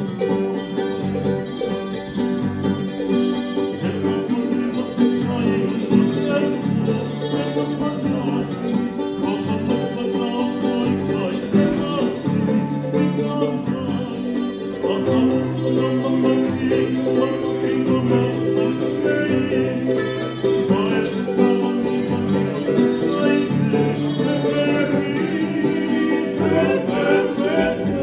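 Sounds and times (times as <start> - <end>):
acoustic guitars strummed: 0.0 - 28.0
ukulele strumming: 0.0 - 28.0
men singing: 3.6 - 28.0.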